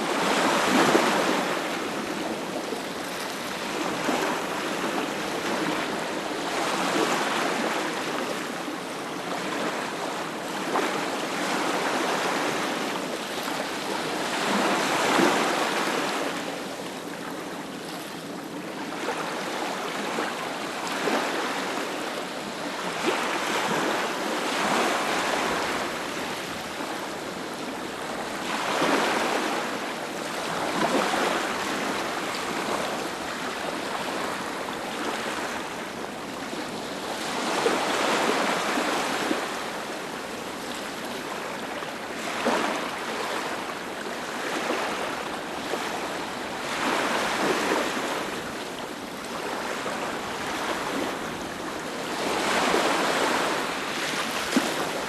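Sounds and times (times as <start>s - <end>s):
sea waves washing up a beach: 0.0s - 55.0s.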